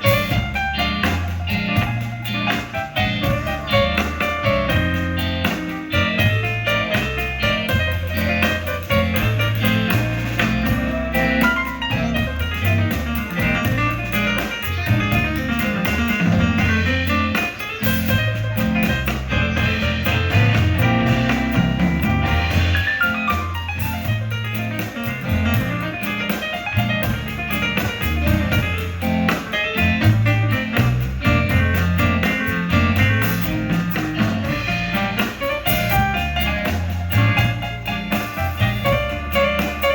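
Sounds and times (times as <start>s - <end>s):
blues band playing: 0.0s - 39.9s
electric guitar: 0.0s - 39.9s.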